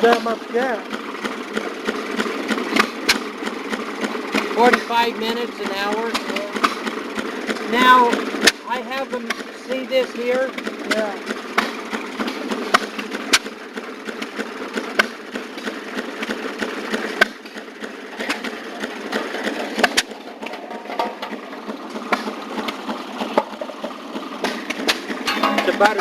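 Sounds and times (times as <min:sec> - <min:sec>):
small two-stroke engine running: 0:00.0 - 0:26.0.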